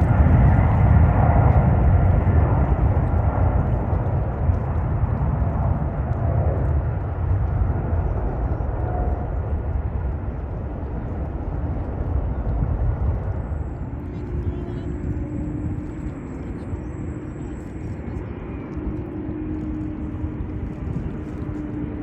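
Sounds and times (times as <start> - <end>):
jet airliner engine noise: 0.0 - 22.0.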